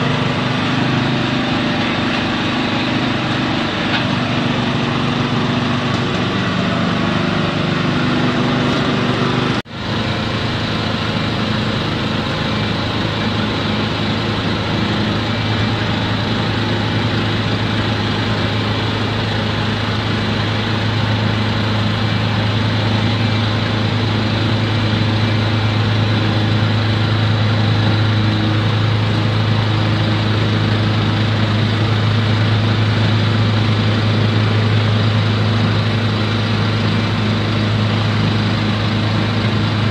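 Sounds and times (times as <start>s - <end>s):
machinery running with low hum: 0.0s - 39.9s.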